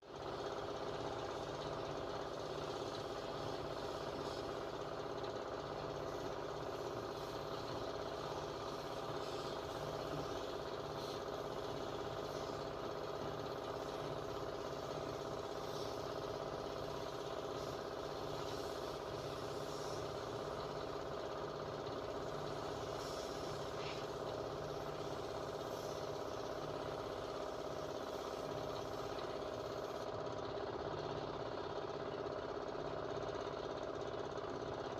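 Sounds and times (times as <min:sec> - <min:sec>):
small motor humming: 0:00.2 - 0:30.1.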